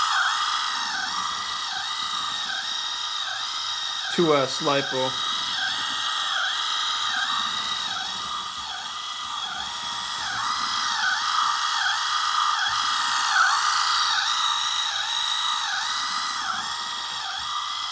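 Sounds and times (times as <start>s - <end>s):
faint constant high tone: 0.0s - 17.9s
small electric motor whining: 0.0s - 17.9s.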